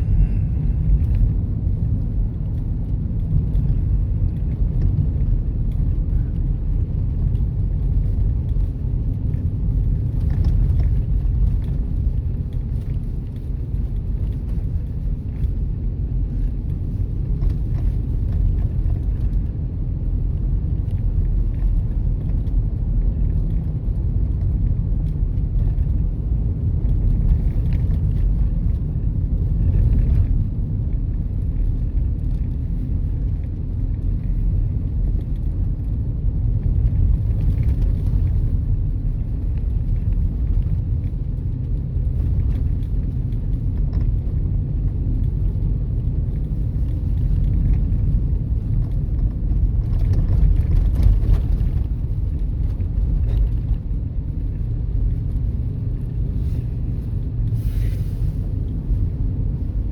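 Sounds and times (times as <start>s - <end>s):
car road and tyre noise: 0.0s - 59.9s.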